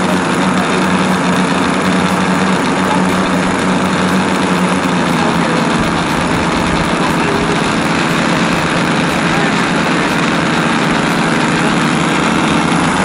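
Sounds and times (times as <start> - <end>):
model plane engines idling: 0.0 - 13.0.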